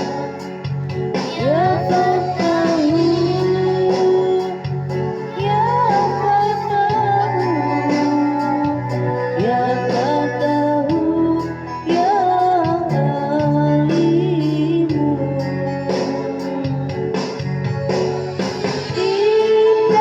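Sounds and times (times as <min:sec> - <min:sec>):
woman singing: 0:00.0 - 0:17.4, 0:18.9 - 0:20.0
backing track with guitar: 0:00.0 - 0:20.0.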